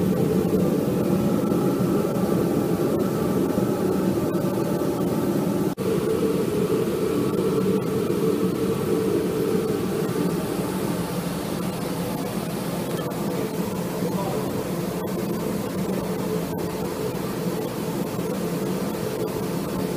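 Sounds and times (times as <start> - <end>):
ventilation blower drone: 0.0 - 19.9.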